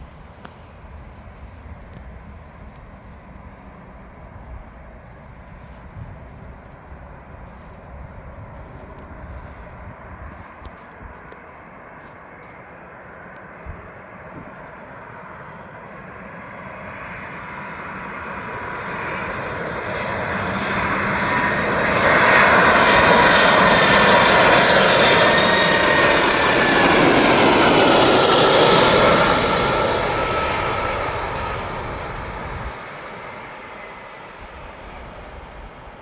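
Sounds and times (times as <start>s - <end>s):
aircraft engine rumble: 0.0s - 36.0s.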